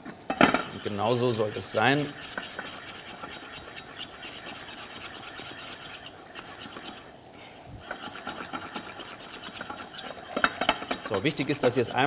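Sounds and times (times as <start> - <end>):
utensil scraping a pot: 0.6 - 7.2, 7.8 - 12.0.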